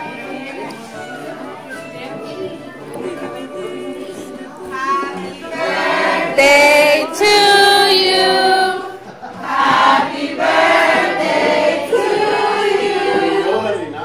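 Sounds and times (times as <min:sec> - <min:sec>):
group singing long held notes: 0:00.0 - 0:14.0.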